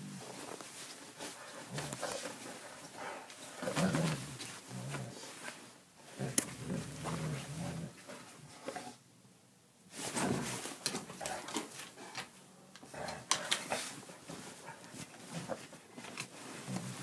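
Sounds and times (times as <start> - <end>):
bedding rustling and scuffing: 0.0 - 8.6, 9.9 - 12.1, 12.9 - 17.0.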